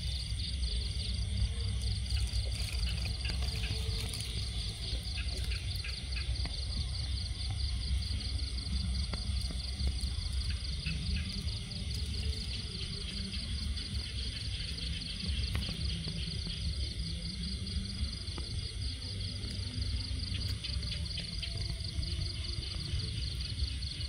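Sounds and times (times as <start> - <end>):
crickets chirping: 0.0 - 24.0
low rumble: 0.0 - 24.0.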